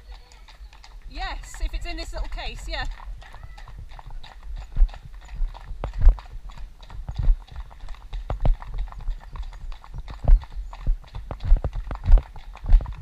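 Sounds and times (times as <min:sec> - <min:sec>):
horse hooves on tarmac: 0:00.0 - 0:13.0.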